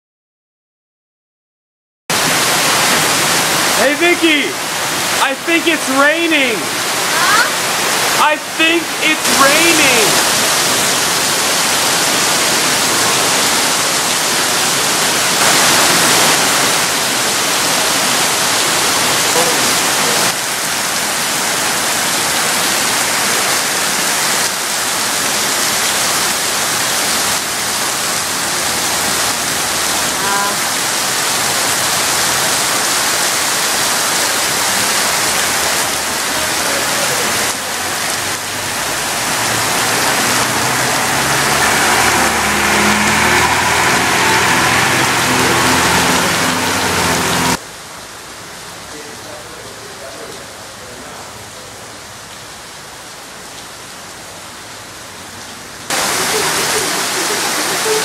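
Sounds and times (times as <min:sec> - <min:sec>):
heavy rain pouring: 0:02.1 - 0:58.0.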